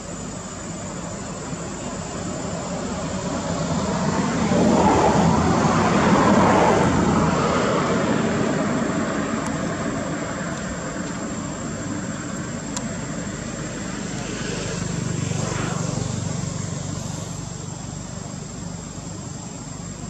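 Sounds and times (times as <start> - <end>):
aircraft rumble passing overhead: 0.0 - 20.0.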